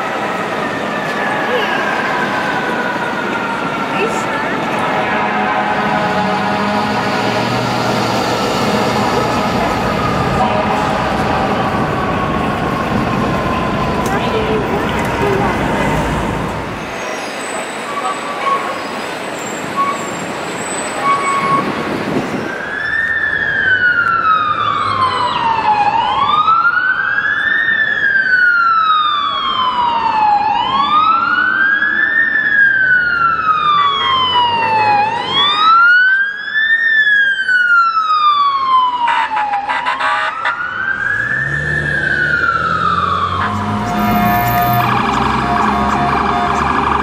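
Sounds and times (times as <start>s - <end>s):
police siren wailing: 0.0s - 17.0s, 21.0s - 47.0s
city traffic rumble: 0.0s - 47.0s.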